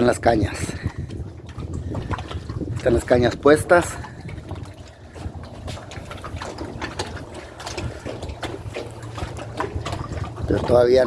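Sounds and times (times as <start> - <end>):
water lapping at shore: 0.0 - 11.0
wind rumbling on microphone: 0.0 - 11.0.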